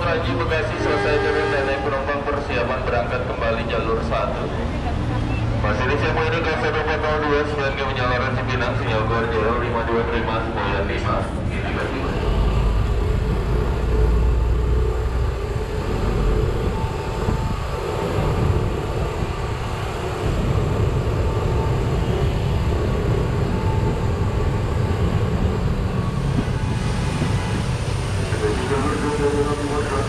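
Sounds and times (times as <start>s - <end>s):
train rumbling through station: 0.0s - 30.0s.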